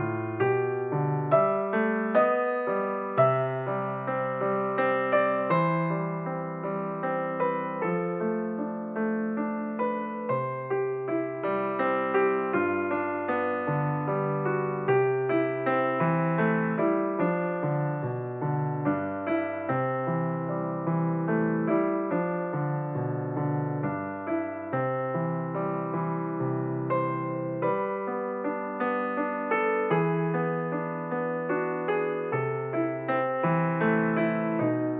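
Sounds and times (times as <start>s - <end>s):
piano playing steady notes: 0.0s - 34.9s.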